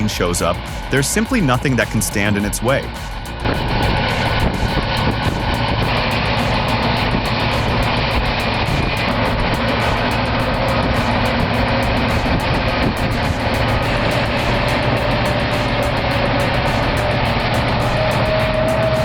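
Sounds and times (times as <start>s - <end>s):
bulldozer engine running: 0.0s - 19.0s.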